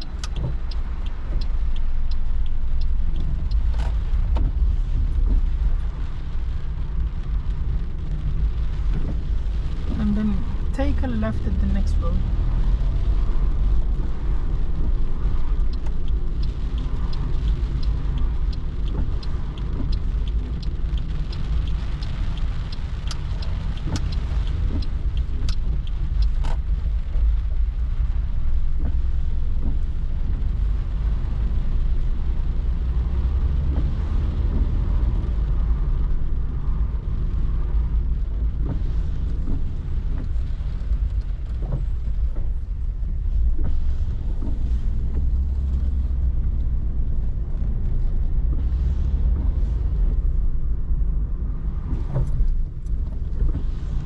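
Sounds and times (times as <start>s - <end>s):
road and tyre rumble: 0.0s - 54.0s
turn indicator ticking: 0.0s - 54.0s.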